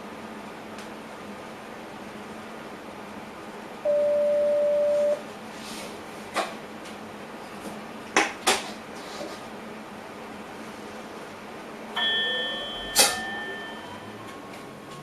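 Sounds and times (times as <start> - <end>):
train cab running hum: 0.0 - 15.0.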